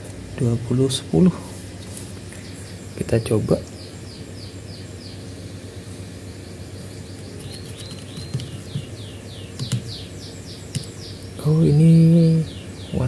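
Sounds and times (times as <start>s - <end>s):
small bird chirping: 2.3s - 13.0s.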